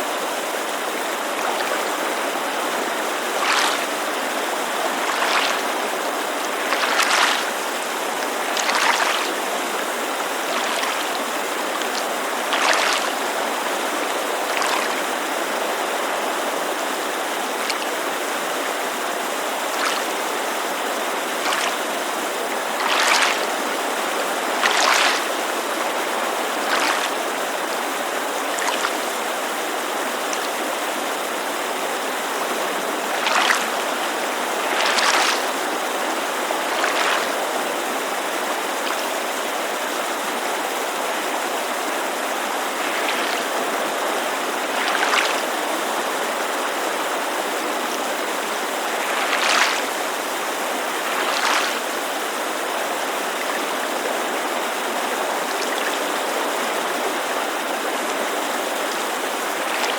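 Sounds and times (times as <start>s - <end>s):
creek rushing: 0.0s - 59.9s
water lapping against shore: 0.0s - 59.9s.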